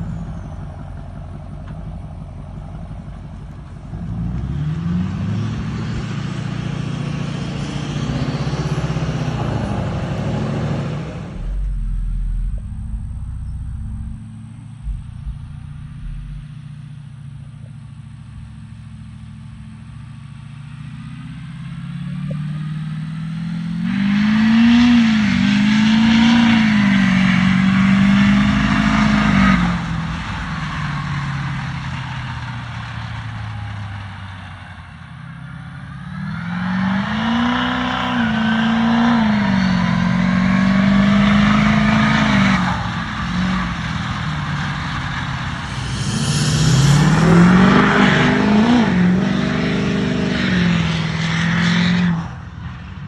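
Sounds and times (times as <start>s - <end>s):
diesel engine revving: 0.0s - 52.7s.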